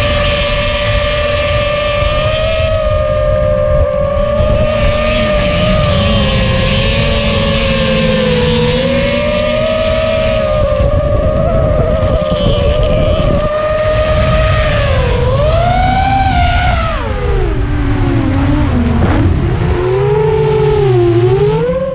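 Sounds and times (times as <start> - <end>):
racing engine at high revs: 0.0 - 21.9.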